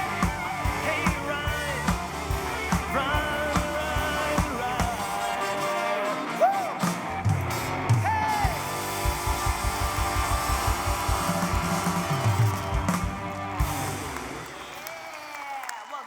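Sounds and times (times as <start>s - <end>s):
rock and roll song: 0.0s - 15.4s.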